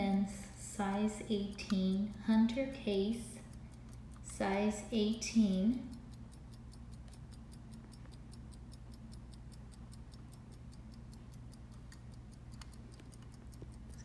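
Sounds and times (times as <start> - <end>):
pocket watch ticking: 0.0 - 14.0.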